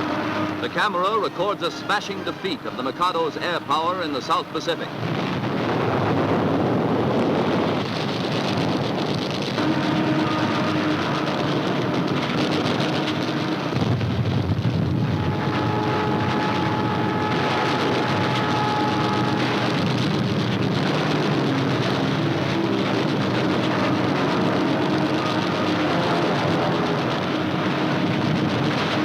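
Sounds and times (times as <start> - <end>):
aircraft engines droning: 0.0 - 29.0.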